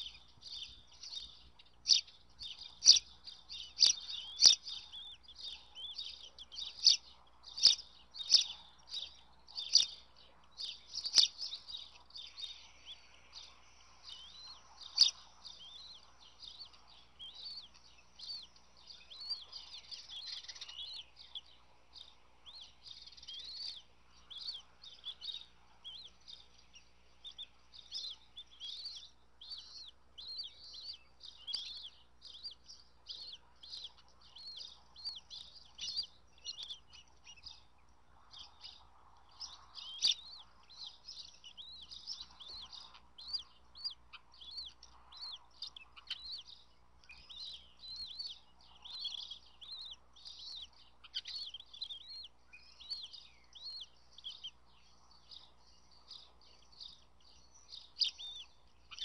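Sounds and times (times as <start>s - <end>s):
eagle chicks peeping: 0.0s - 59.0s.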